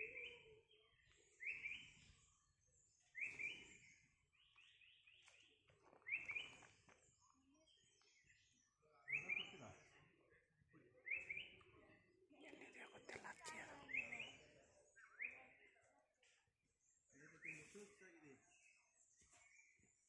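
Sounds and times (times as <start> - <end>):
faint high-pitched bird chirps: 0.0 - 20.0.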